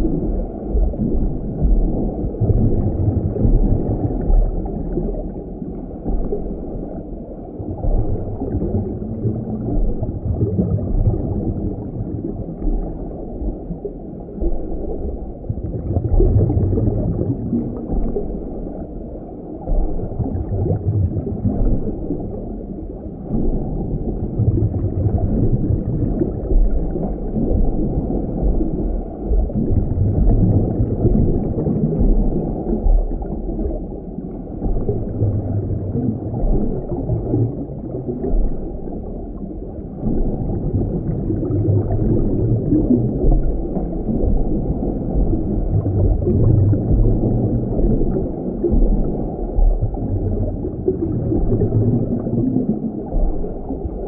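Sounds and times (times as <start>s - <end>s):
underwater rumble and gurgle: 0.0s - 54.0s.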